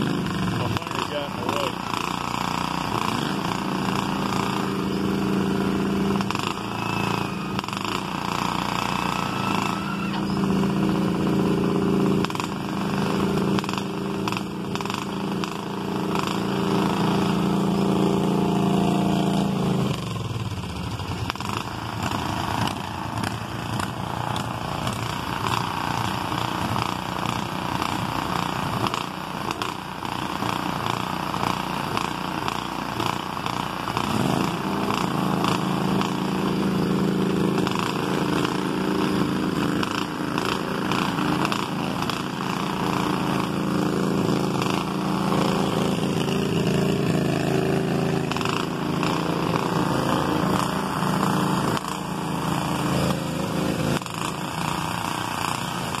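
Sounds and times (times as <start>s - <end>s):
small tractor engines running: 0.0s - 56.0s.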